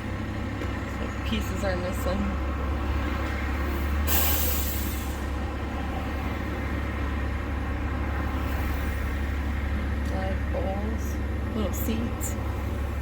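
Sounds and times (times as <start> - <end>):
truck diesel engine idling: 0.0 - 13.0.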